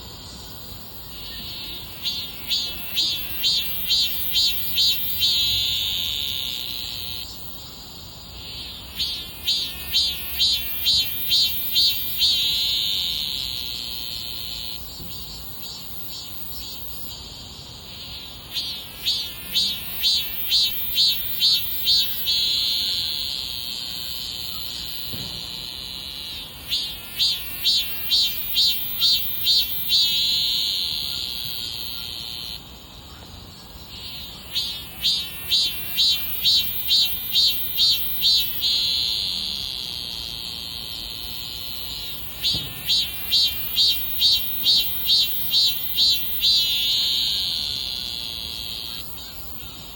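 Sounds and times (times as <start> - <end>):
cicada buzzing: 0.0 - 49.9.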